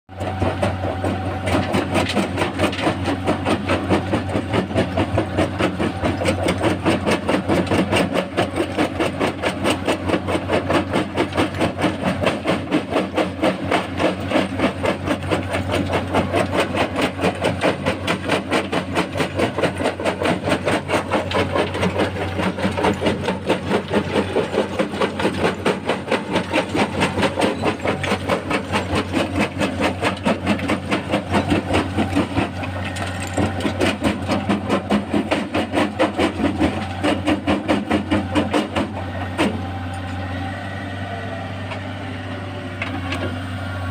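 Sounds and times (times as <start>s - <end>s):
machine rhythmic clatter: 0.2s - 39.5s.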